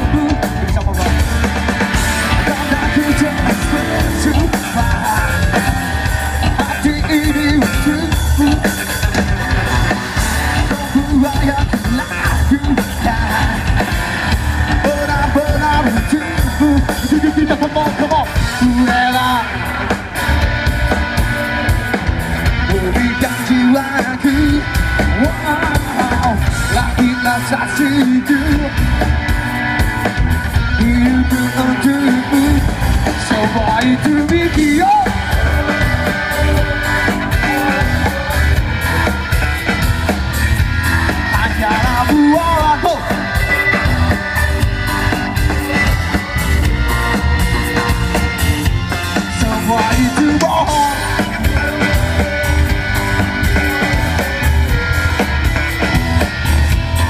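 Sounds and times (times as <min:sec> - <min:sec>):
man singing: 0:00.0 - 0:20.1, 0:22.6 - 0:29.3, 0:30.6 - 0:57.0
live rock band playing: 0:00.0 - 0:57.0.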